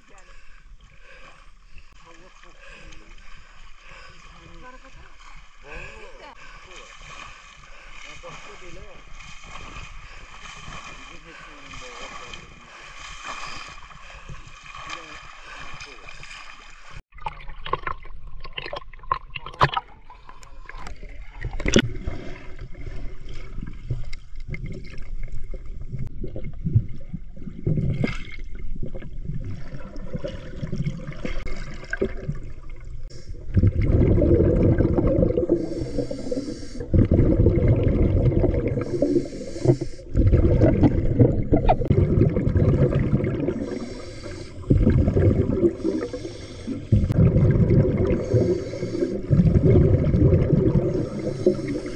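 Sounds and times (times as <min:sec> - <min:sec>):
muffled underwater rushing: 0:00.0 - 0:51.9
water splashing: 0:00.0 - 0:51.9.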